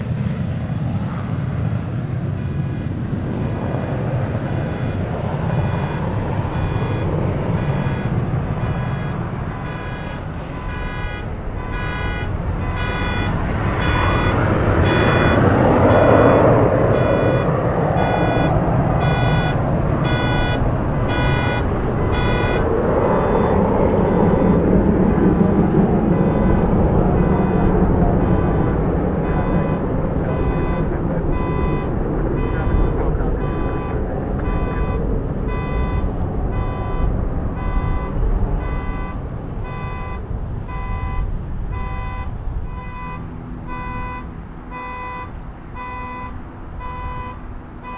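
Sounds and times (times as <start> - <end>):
jet engine rumble: 1.1 - 47.9
car alarm beeping: 2.4 - 47.9.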